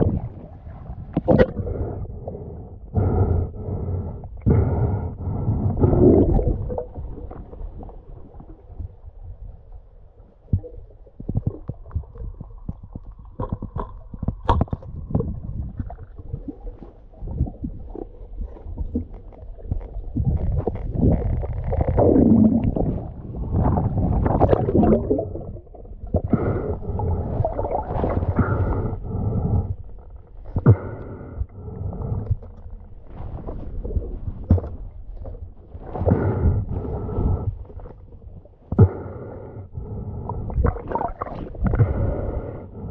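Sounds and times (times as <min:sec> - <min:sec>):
underwater water gurgling and bubbles: 0:00.0 - 0:42.9.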